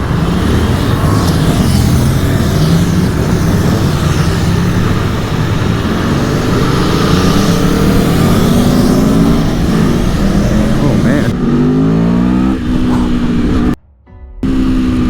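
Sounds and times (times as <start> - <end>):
motorcycle engine accelerating: 0.0 - 13.8, 14.4 - 15.0.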